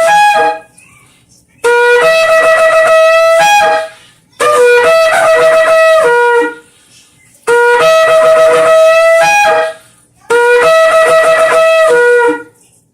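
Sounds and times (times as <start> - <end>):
shofar blasts: 0.0 - 0.7, 1.6 - 6.7, 7.5 - 12.6.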